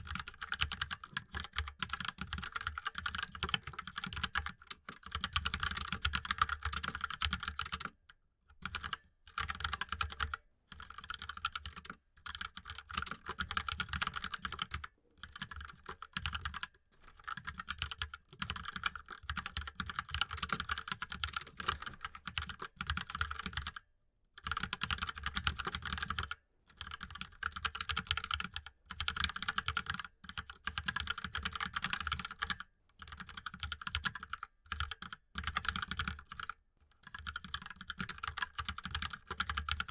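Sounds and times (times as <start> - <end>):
mechanical keyboard typing: 0.0 - 7.9, 8.6 - 23.8, 24.4 - 39.9.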